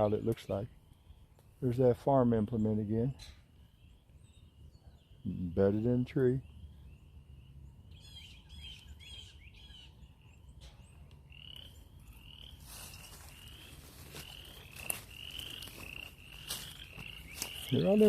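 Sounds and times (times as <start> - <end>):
frogs peeping: 0.0 - 18.0.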